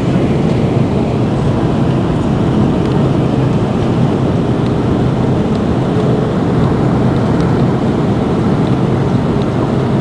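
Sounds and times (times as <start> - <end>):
airflow over flaps: 0.0 - 10.0
airplane cabin engine drone: 0.0 - 10.0.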